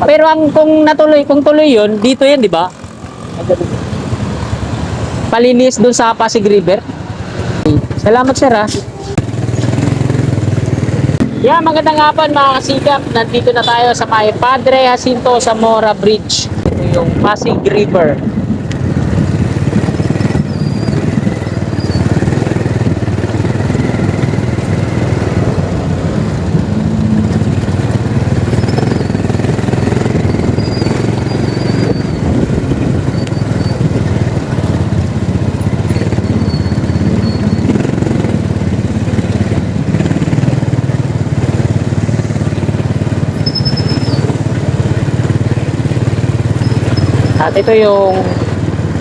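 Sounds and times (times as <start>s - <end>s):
motorcycle engines passing: 0.0s - 49.0s.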